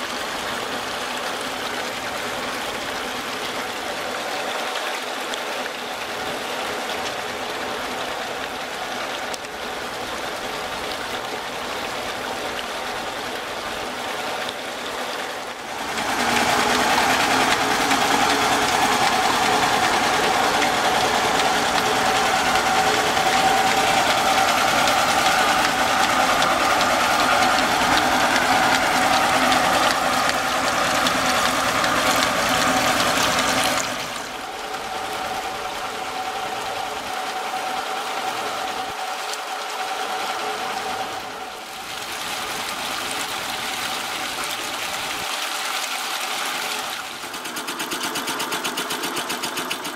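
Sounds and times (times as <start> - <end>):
machine running steadily: 0.0 - 49.9
water splashing into tank: 0.0 - 49.9.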